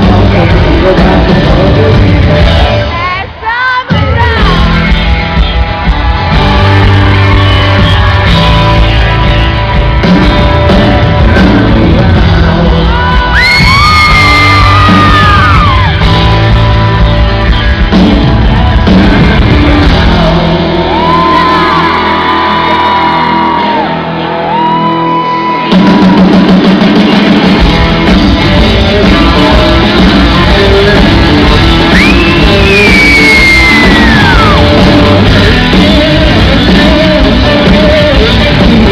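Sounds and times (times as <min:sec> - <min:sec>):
lead singer singing: 0:00.0 - 0:16.9, 0:18.4 - 0:24.1, 0:27.8 - 0:38.9
live pop-rock band: 0:00.0 - 0:38.9.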